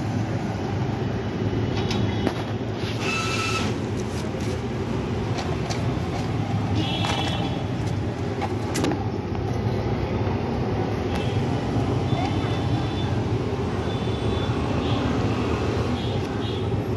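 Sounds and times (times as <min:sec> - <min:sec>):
street traffic rumble: 0:00.0 - 0:16.9.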